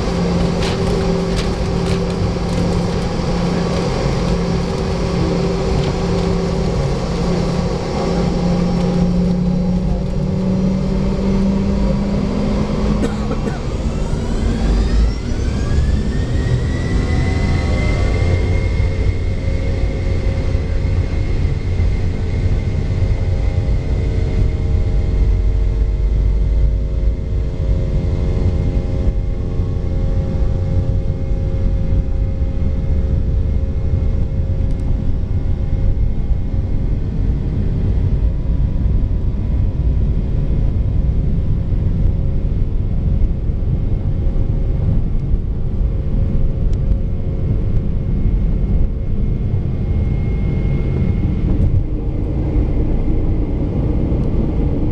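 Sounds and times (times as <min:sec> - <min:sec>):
airliner rolling rumble: 0:00.0 - 0:54.9
jet engine whine: 0:00.0 - 0:54.9.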